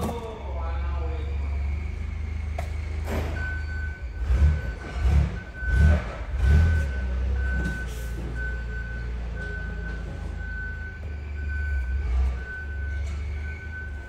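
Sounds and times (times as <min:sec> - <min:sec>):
low engine hum: 0:00.0 - 0:14.0
vehicle reversing alarm beeps: 0:00.0 - 0:14.0.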